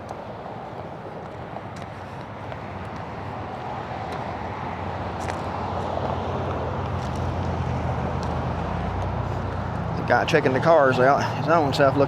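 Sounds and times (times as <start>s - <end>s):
vehicle engine and tyres: 0.0s - 12.0s.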